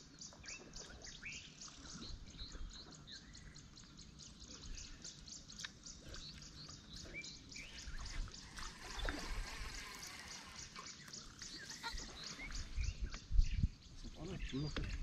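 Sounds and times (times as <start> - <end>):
bird chirps: 0.2 - 15.0.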